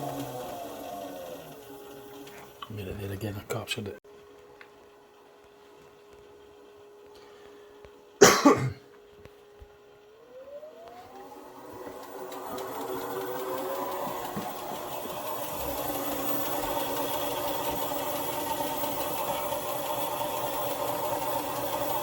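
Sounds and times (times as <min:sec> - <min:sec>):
washing machine spin whine: 0:00.0 - 0:22.0.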